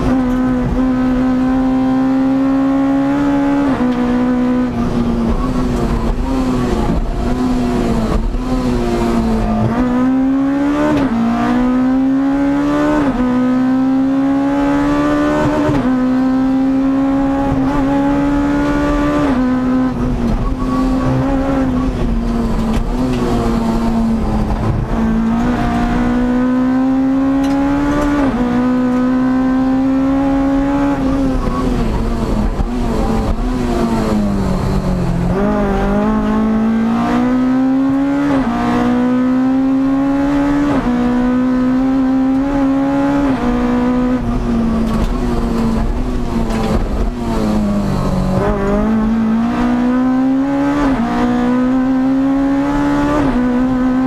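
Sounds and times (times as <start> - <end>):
car engine revving through gears: 0.0 - 54.0.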